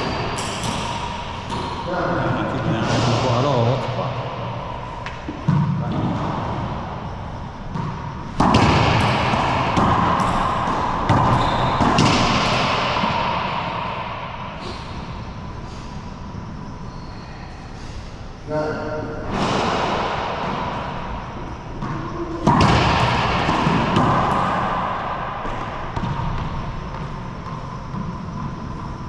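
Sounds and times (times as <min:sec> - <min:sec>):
racquets striking ball: 0:00.0 - 0:02.0, 0:02.8 - 0:15.2, 0:19.3 - 0:29.0
ball hitting court walls: 0:00.0 - 0:15.1, 0:19.3 - 0:29.0.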